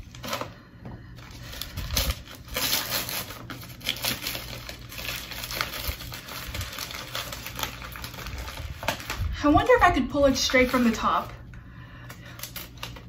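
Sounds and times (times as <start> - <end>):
paper wrapping crinkling: 1.2 - 11.4, 12.0 - 13.0.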